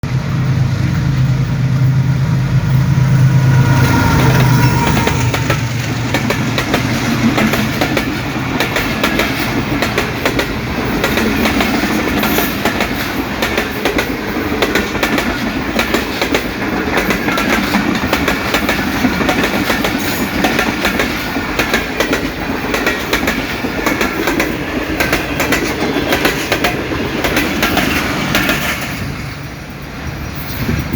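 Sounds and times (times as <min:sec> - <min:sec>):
train wheels clattering on rail joints: 0:02.6 - 0:30.9.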